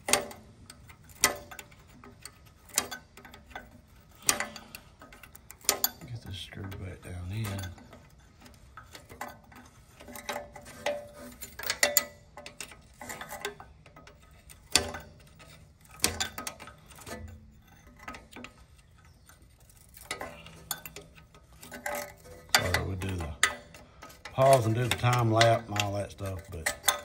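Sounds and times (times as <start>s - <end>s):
wrench clicking on a bolt: 0.0s - 27.0s.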